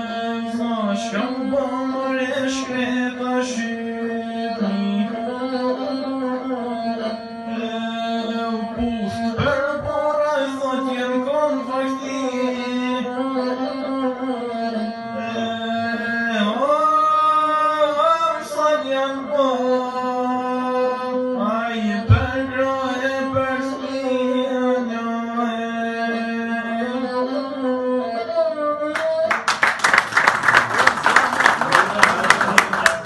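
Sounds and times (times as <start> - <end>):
man singing: 0.0 - 29.5.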